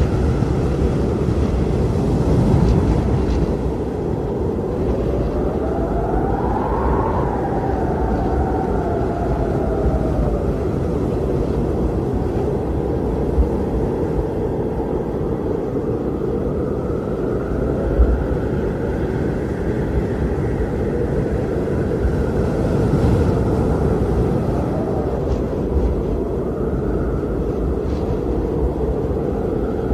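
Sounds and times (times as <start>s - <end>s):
howling blizzard wind: 0.0s - 29.9s
low wind buffets: 0.0s - 29.9s.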